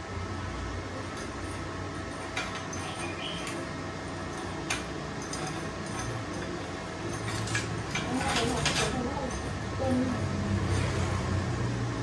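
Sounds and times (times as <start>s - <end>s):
steel pieces clicking and clinking: 0.9s - 11.0s.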